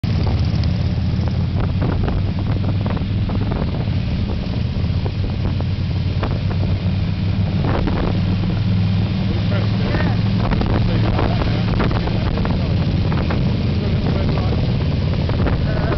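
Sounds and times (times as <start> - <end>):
vehicle engine running: 0.0 - 15.9
wind buffeting microphone: 0.0 - 15.9.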